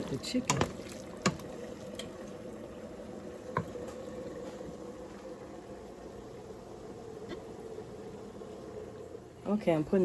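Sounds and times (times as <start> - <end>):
pot bubbling on stove: 0.0 - 10.0.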